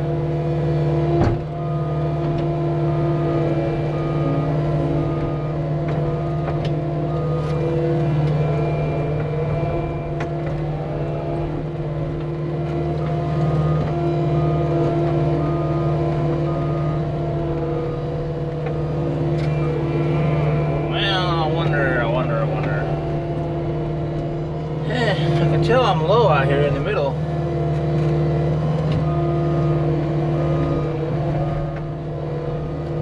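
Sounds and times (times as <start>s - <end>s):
diesel engine running: 0.0s - 33.0s
backup alarm beeps: 1.5s - 23.4s, 24.9s - 27.3s, 27.9s - 33.0s.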